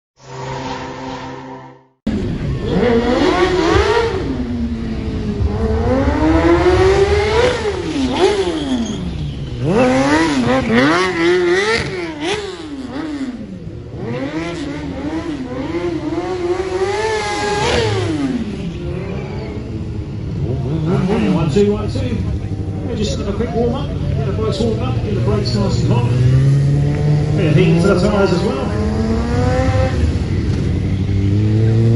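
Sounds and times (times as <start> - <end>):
motorcycle engine revving: 0.2 - 31.9.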